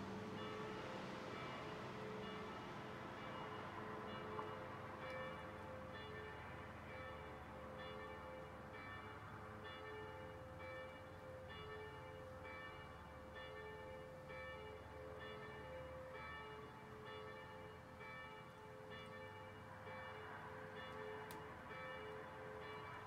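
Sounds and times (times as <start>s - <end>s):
church bells ringing faintly: 0.0s - 23.0s.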